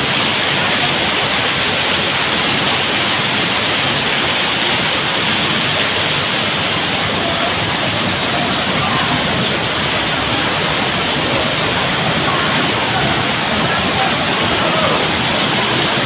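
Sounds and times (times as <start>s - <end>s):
water rushing over stones: 0.0s - 16.0s.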